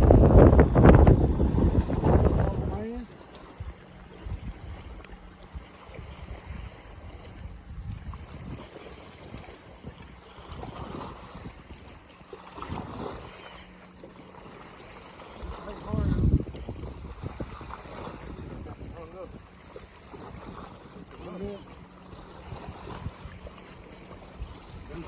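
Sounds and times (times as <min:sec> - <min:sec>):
wind rumble on microphone: 0:00.0 - 0:13.4, 0:15.1 - 0:25.0.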